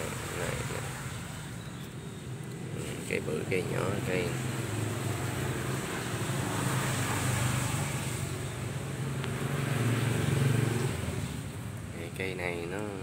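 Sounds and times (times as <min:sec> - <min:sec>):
vehicle engine in passing traffic: 0:00.0 - 0:13.0.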